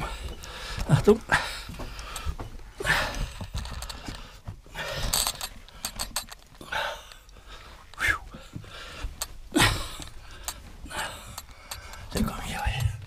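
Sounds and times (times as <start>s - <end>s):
person breathing hard: 0.0s - 12.8s.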